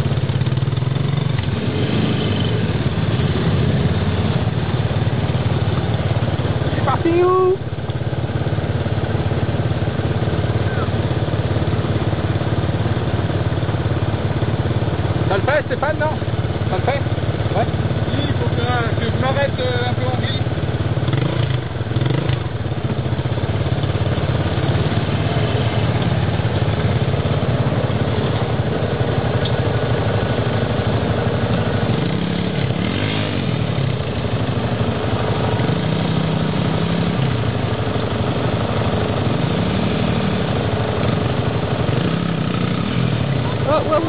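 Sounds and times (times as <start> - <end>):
three-wheeler engine revving: 0.0 - 44.0.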